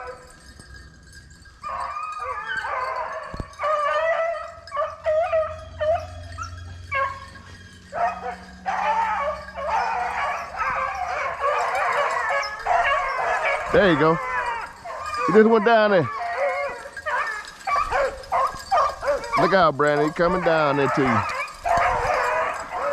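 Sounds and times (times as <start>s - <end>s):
hounds baying and howling: 0.0s - 22.9s.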